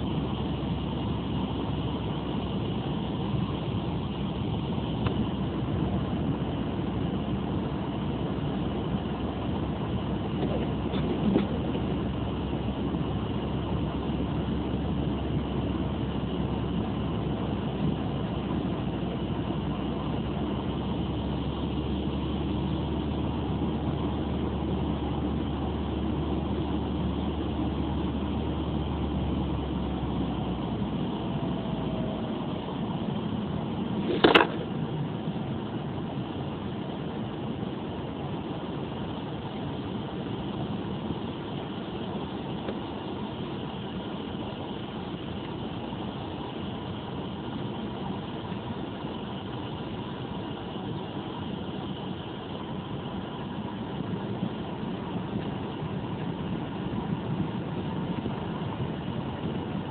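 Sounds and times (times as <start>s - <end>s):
car rumbling on snowy road: 0.0s - 59.9s.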